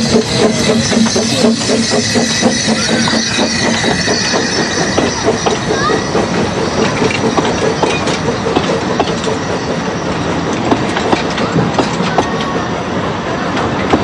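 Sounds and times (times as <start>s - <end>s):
train wheels clattering over rails: 0.0s - 14.0s.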